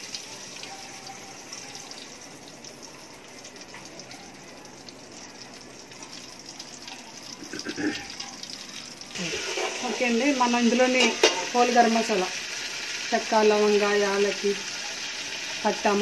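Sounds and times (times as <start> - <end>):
butter sizzling in a pot: 0.0 - 16.0.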